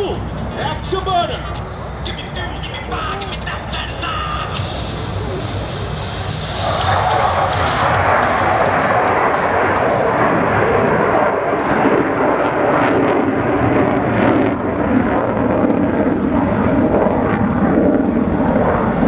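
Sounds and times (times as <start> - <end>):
fighter jet engine roar: 0.0 - 19.0.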